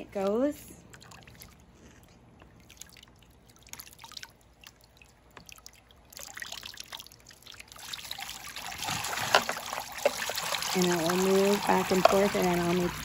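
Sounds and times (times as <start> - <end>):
water splashing through holes: 0.0 - 13.0
water poured from a bucket: 0.9 - 13.0
water dripping: 2.3 - 13.0.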